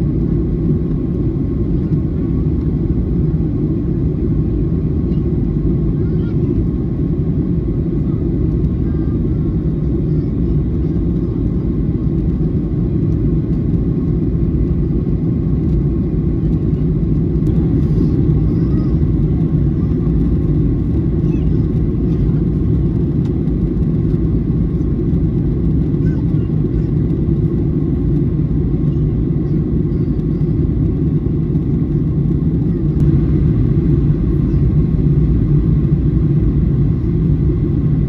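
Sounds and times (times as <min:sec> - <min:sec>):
jet airliner cabin rumble: 0:00.0 - 0:38.0.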